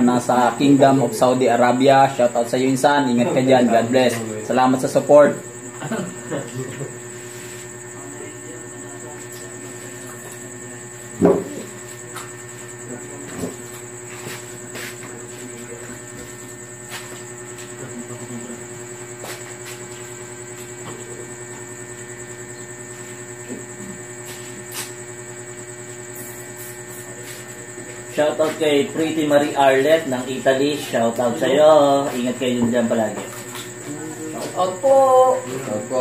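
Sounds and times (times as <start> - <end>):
high-pitched insect trill: 0.0 - 36.0.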